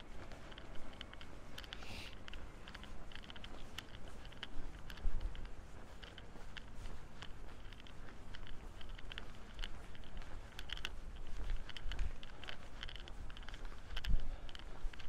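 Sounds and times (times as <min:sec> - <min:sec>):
footsteps crunching: 0:00.0 - 0:15.0
wind rumble on microphone: 0:00.0 - 0:15.0.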